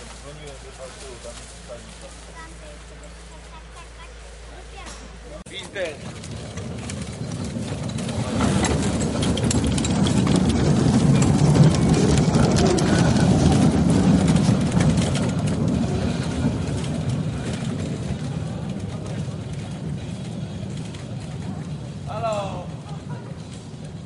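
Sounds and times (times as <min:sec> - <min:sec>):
railcar wheels rumbling on rails: 0:04.4 - 0:24.0.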